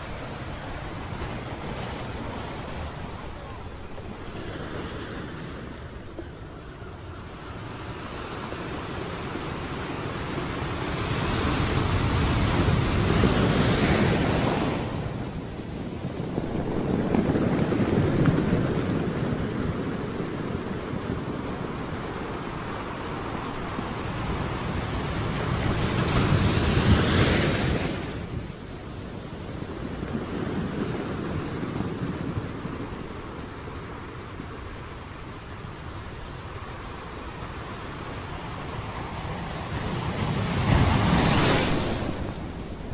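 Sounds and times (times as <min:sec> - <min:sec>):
small waves breaking on sand: 0:08.3 - 0:42.9.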